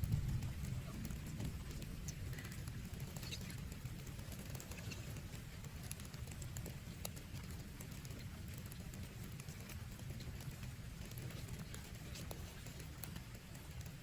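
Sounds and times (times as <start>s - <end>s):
heavy rain on a tent: 0.0s - 14.0s.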